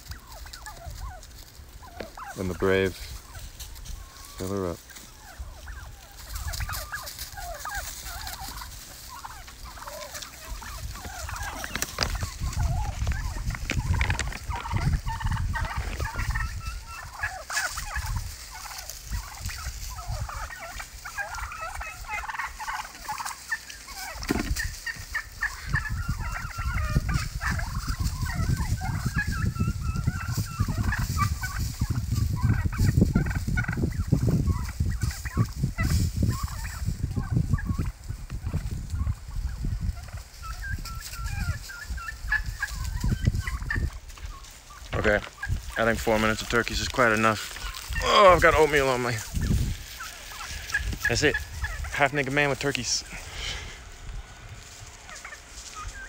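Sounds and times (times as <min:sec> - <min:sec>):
turkeys calling: 0:00.0 - 0:56.0.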